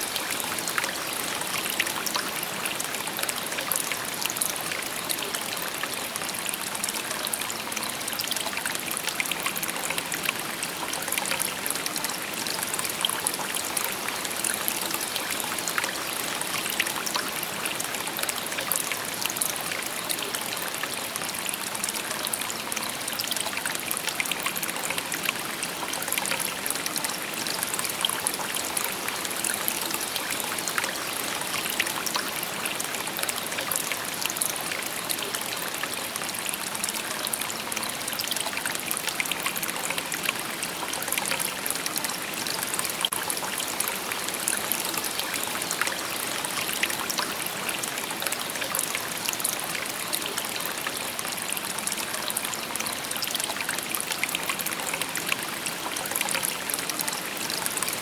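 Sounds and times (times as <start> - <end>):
small water splashes and trickles: 0.0 - 58.0.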